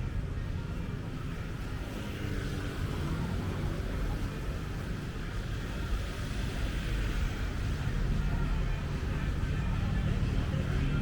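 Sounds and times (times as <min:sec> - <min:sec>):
busy street low rumble: 0:00.0 - 0:11.0.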